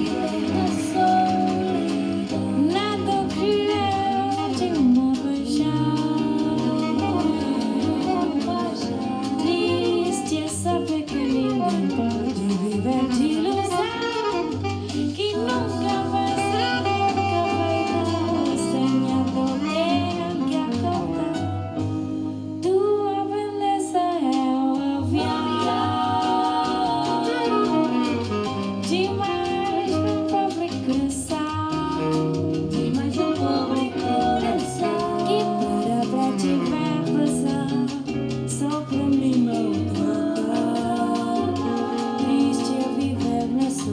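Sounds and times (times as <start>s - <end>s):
song with singer and band on speakers: 0.0s - 43.9s.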